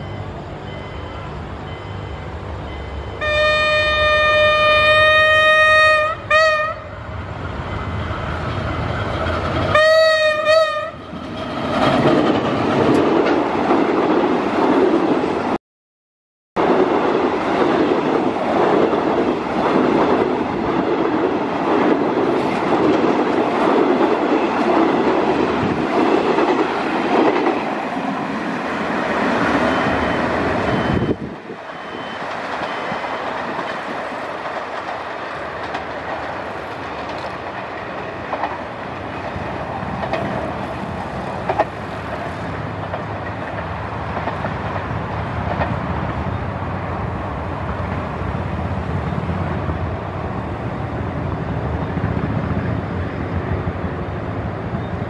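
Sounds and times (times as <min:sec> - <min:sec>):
train wheels rolling on rails: 0:00.0 - 0:15.6, 0:16.6 - 0:55.0.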